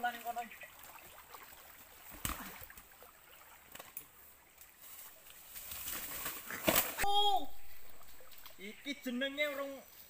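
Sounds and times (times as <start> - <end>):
faint running water: 0.0 - 6.6, 7.4 - 9.8.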